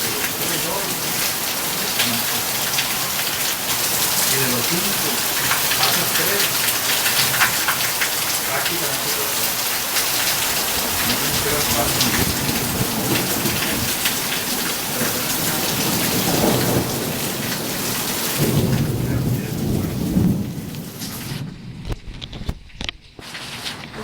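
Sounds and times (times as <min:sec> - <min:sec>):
low thunder rumbles: 0:00.0 - 0:23.2
heavy rain pouring: 0:00.0 - 0:24.0.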